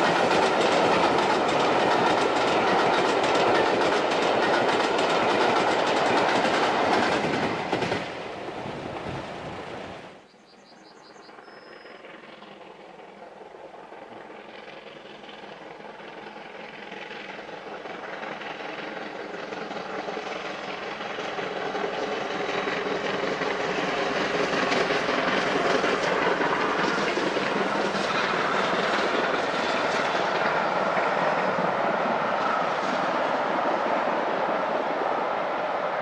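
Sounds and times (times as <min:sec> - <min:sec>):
steam train passing: 0:00.0 - 0:36.0.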